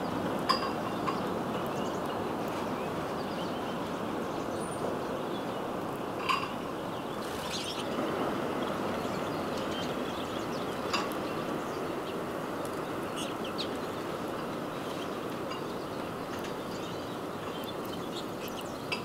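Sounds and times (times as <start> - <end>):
songbird calls and chirps: 0.0 - 19.0
steady background hiss: 0.0 - 19.0.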